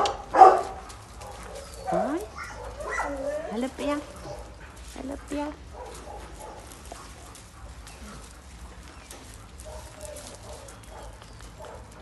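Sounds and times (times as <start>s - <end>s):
dogs giving faint calls: 0.0s - 12.0s
light clicking and rustling: 0.0s - 12.0s.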